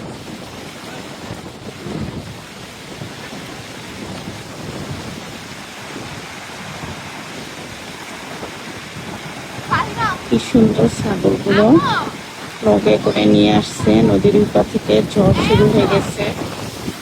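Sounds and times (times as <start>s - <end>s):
waves washing: 0.0s - 17.0s
wind gusting over microphone: 0.0s - 17.0s.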